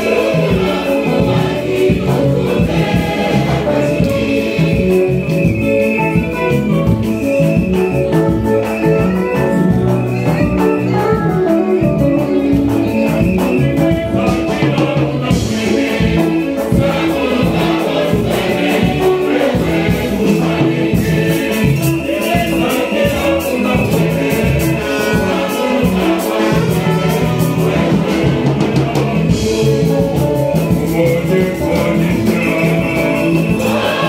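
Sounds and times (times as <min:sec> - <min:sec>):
choir singing church music: 0:00.0 - 0:10.2, 0:11.3 - 0:34.0
instrumental accompaniment: 0:00.0 - 0:34.0
steady percussion beat: 0:00.0 - 0:34.0.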